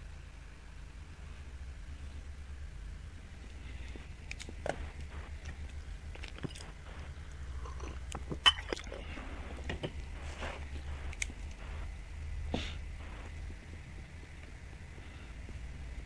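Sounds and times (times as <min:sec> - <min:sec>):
low phone line hum: 0:00.0 - 0:16.0.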